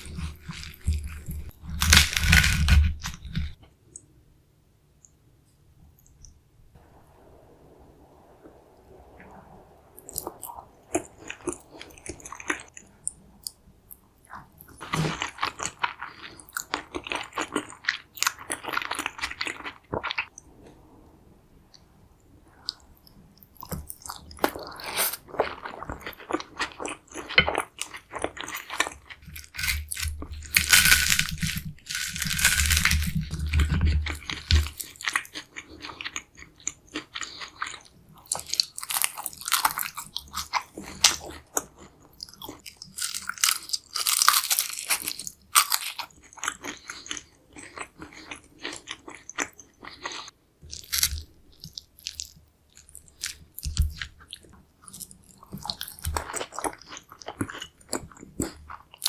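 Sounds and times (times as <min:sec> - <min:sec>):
crunchy food chewing: 0:00.0 - 0:03.6, 0:10.0 - 0:20.3, 0:22.6 - 0:59.0.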